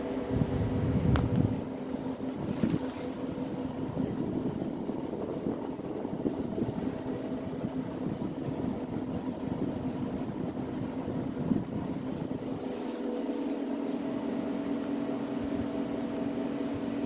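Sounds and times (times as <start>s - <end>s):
air conditioner fan humming: 0.0s - 17.0s.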